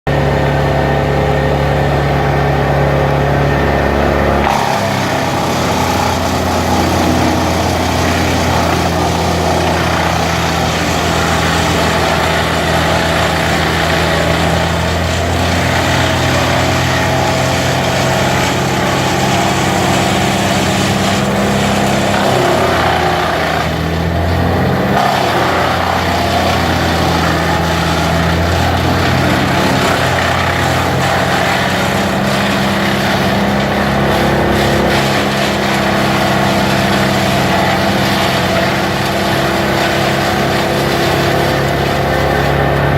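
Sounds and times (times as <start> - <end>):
wood chipper running: 0.1 - 42.9.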